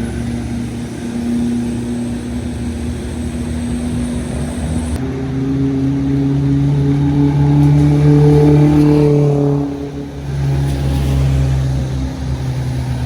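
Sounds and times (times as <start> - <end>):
heavy vehicle engine passing: 0.0 - 13.0.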